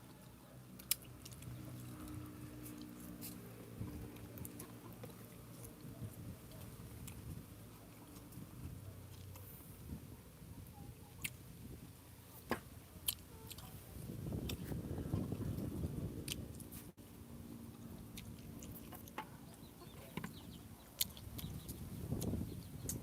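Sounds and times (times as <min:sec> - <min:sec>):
chewing: 0:00.7 - 0:09.9, 0:11.1 - 0:11.4, 0:13.0 - 0:16.9, 0:17.8 - 0:23.0.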